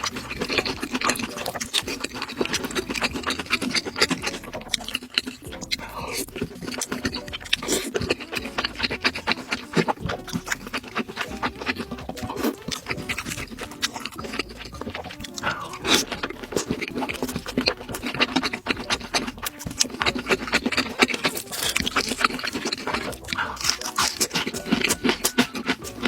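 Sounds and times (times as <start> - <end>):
person chewing with wet mouth sounds: 0.0 - 26.0.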